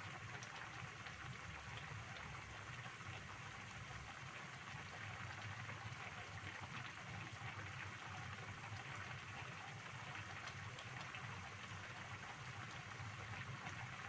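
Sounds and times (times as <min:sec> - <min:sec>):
soup bubbling in a wok: 0:00.0 - 0:14.0.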